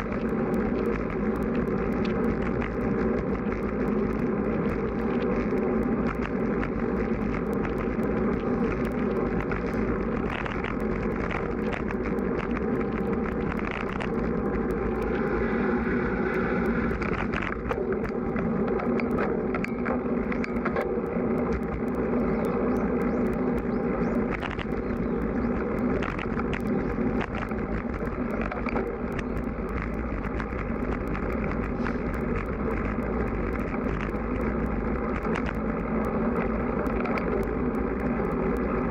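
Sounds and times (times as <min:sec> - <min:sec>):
bike tyres rolling: 0:00.0 - 0:38.9
small clicks and rattles: 0:00.0 - 0:38.9
wind buffeting microphone: 0:00.0 - 0:38.9.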